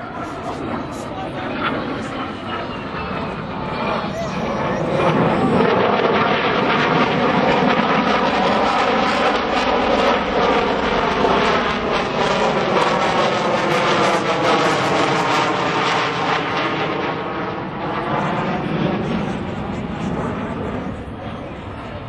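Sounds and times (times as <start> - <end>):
jet engine noise: 0.0 - 22.0.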